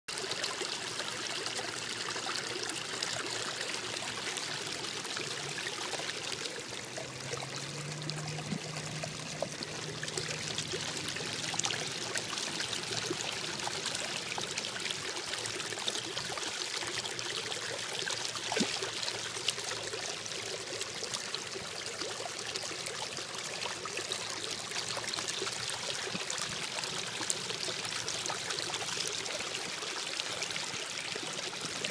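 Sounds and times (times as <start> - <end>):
creek water rushing: 0.1 - 31.9.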